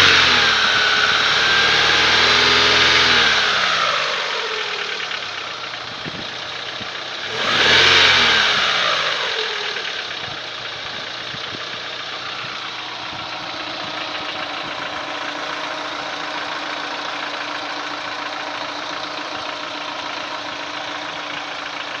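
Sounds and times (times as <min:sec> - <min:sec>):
car engine idling: 0:00.0 - 0:22.0
engine knock: 0:00.0 - 0:22.0
engine revving: 0:00.0 - 0:22.0.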